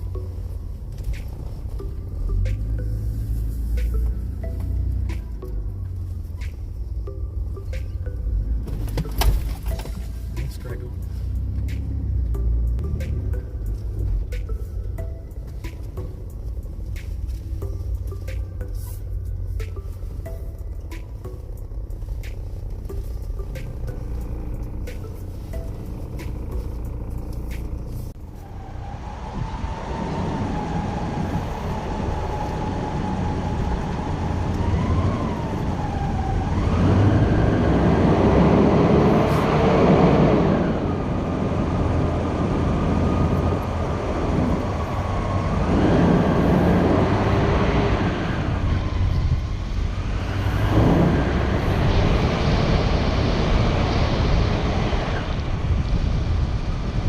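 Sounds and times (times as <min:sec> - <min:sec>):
car engine revving: 0:00.0 - 0:57.0
road noise: 0:00.0 - 0:57.0.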